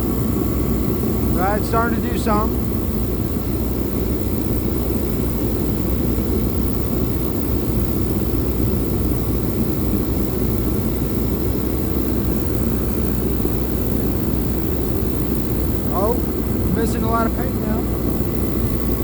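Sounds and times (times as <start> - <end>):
air heater fan rushing: 0.0 - 19.0.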